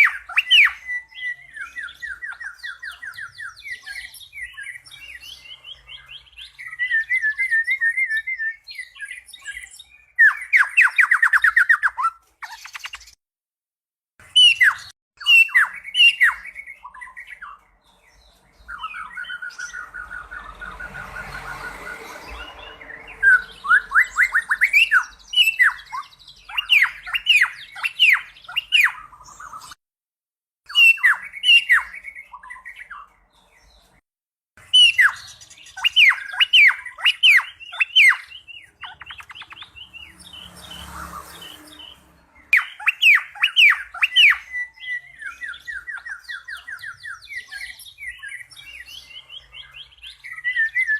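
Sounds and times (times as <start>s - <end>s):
bird whistling song: 0.0s - 13.2s, 14.2s - 29.8s, 30.7s - 33.8s, 34.6s - 50.9s.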